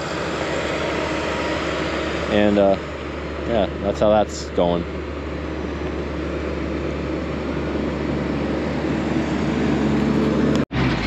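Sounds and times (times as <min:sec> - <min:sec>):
farm vehicle engine running: 0:00.0 - 0:11.0.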